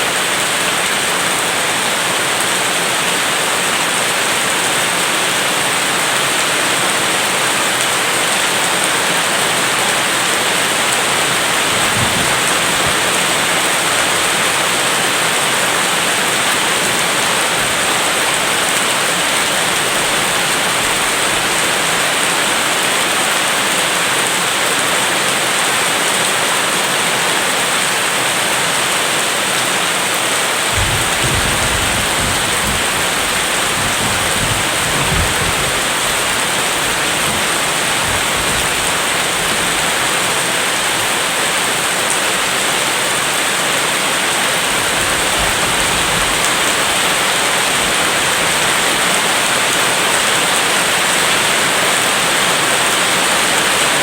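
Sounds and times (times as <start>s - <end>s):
rain hissing: 0.0s - 24.2s, 30.3s - 54.0s.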